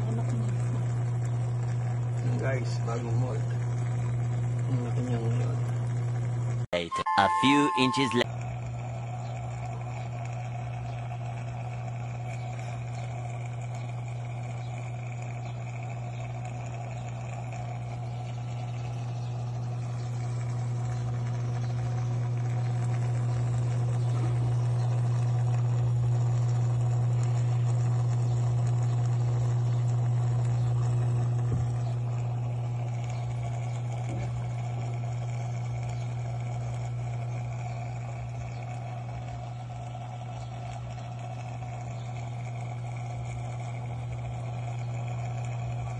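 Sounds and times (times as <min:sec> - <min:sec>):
aquarium pump humming: 0:00.0 - 0:45.9.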